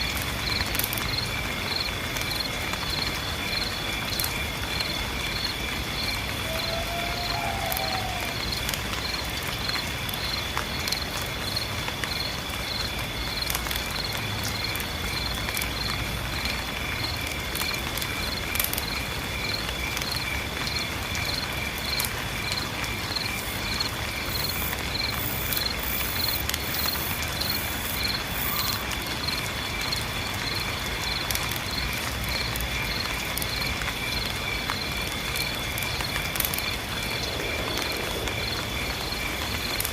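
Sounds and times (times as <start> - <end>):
rain falling: 0.0 - 39.9
insect chirps: 0.1 - 39.9
insects trilling: 0.4 - 11.6, 16.8 - 39.9.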